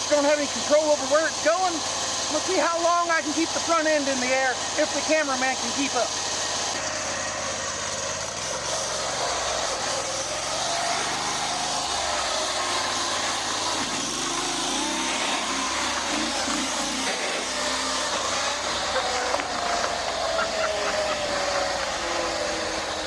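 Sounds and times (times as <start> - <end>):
truck engine under throttle: 0.0 - 23.0.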